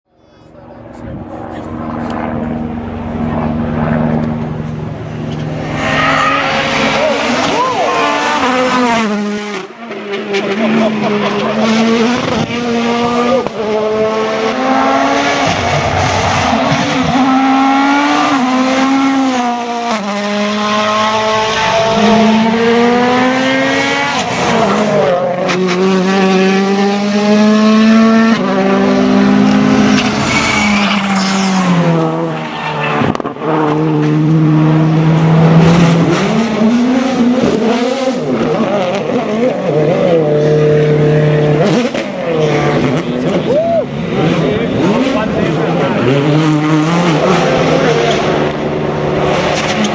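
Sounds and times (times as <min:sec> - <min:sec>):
rally car engines revving: 0:00.1 - 0:49.9.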